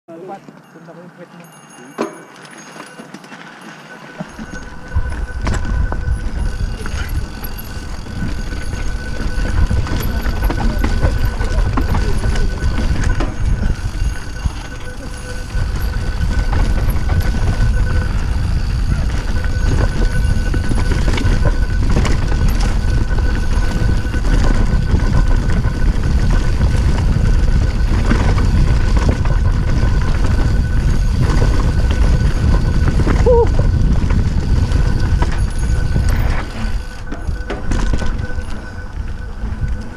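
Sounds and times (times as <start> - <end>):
bike tyres rumbling on dirt: 2.4 - 39.9.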